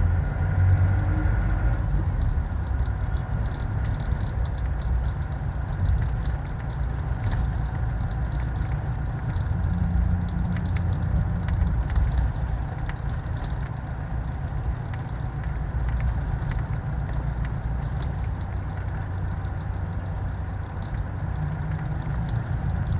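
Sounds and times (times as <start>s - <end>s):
vehicle engine rumbling: 0.0s - 22.9s.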